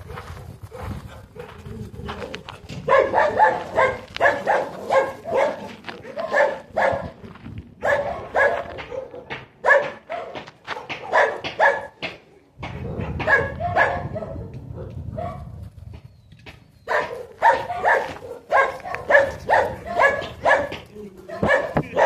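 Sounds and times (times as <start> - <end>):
dog barking: 0.0 - 1.6, 2.2 - 7.2, 7.8 - 12.0, 12.7 - 15.5, 16.9 - 22.0.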